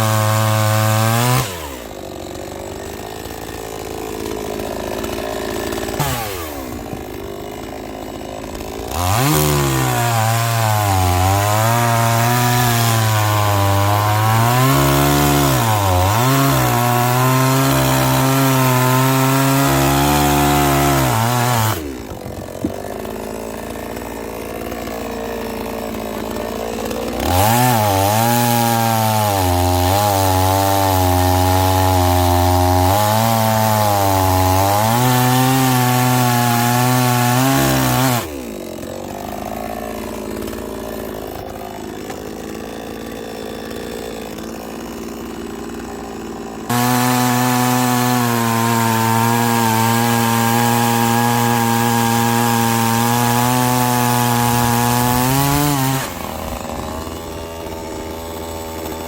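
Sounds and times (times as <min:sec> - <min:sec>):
chainsaw cutting wood: 0:00.0 - 0:59.0
chainsaw idling: 0:00.0 - 0:59.0.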